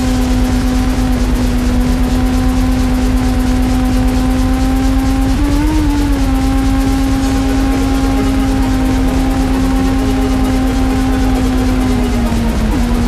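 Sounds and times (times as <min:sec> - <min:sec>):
motorcycle engine at speed: 0:00.0 - 0:13.0.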